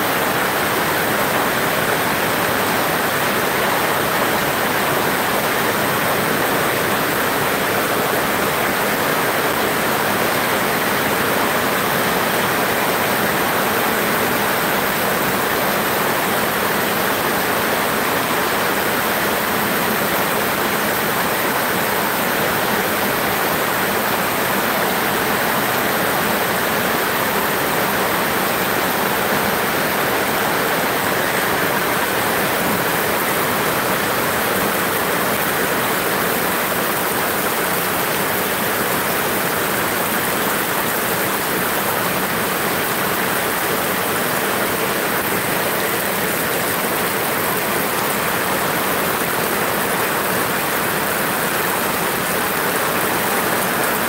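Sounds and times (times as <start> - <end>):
heavy rain hissing: 0.0 - 54.0
water streaming off eaves: 0.0 - 54.0.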